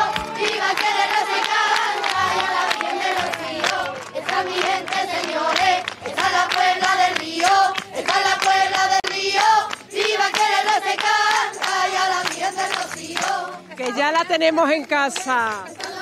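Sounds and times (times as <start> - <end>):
people singing together: 0.0 - 14.2, 15.5 - 16.0
hand clapping in time: 0.0 - 16.0.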